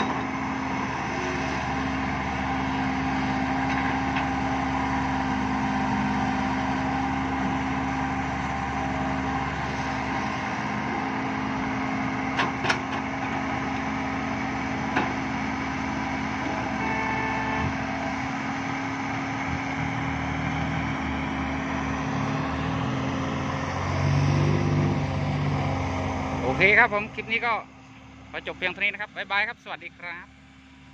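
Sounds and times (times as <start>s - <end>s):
diesel construction machinery running: 0.0s - 30.9s.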